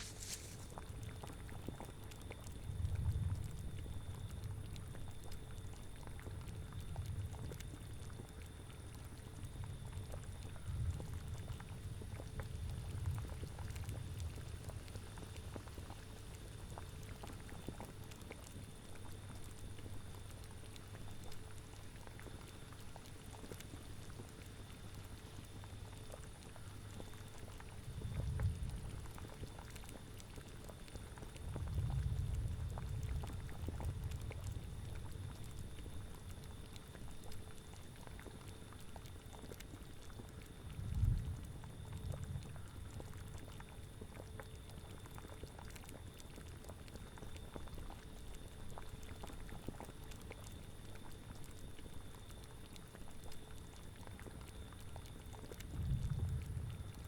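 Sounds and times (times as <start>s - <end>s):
liquid bubbling at a boil: 0.0s - 57.0s.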